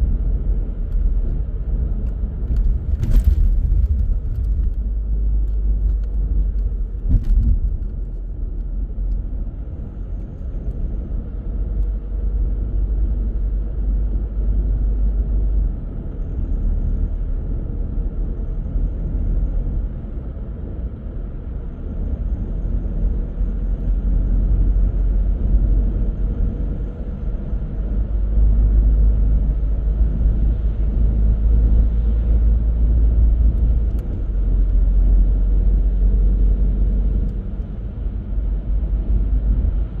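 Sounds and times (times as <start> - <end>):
car tyres and engine rumbling: 0.0 - 40.0.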